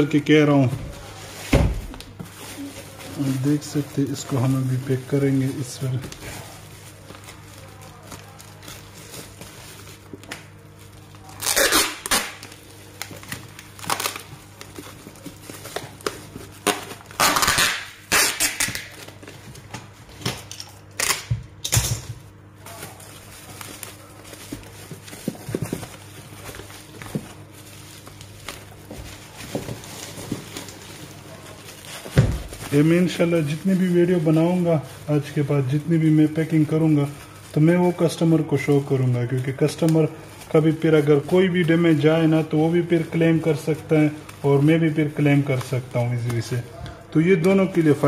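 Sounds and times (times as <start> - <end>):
bubble wrap crinkling: 0.0 - 48.0.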